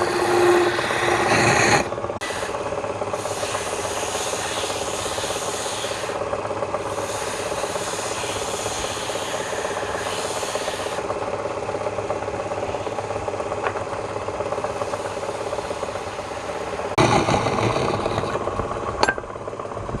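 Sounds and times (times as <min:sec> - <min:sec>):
tool scraping spinning wood: 0:00.0 - 0:19.7
wood lathe motor hum: 0:00.0 - 0:19.8.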